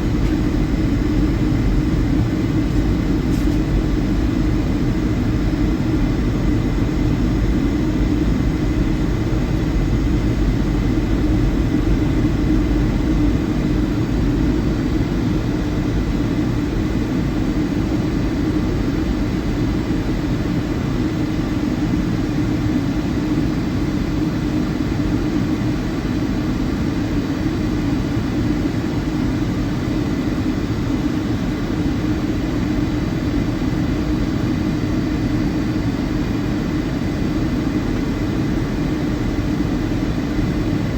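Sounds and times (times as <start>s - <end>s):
aircraft cabin engine drone: 0.0s - 40.9s.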